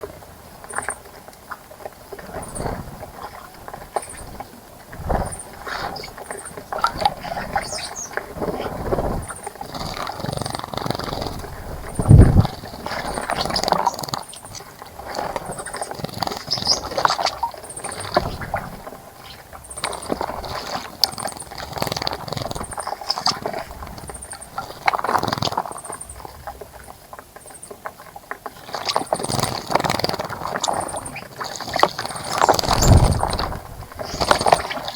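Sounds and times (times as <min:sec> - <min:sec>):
wings fluttering: 0:03.7 - 0:26.0, 0:28.7 - 0:34.9.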